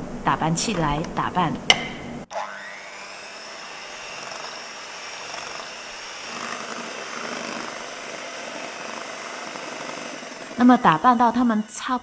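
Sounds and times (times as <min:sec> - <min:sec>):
electric mixer whipping cream: 0:02.3 - 0:12.0.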